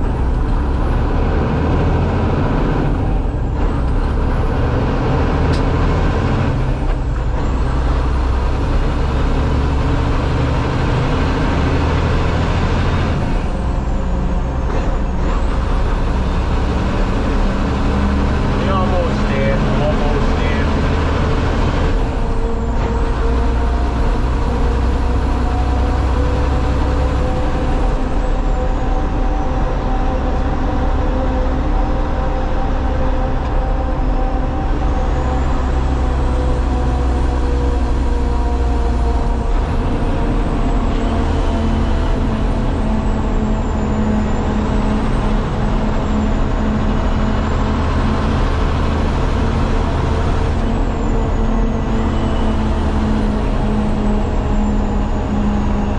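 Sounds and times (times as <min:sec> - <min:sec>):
diesel truck engine rumbling: 0:00.0 - 0:55.9
road noise: 0:00.0 - 0:55.9.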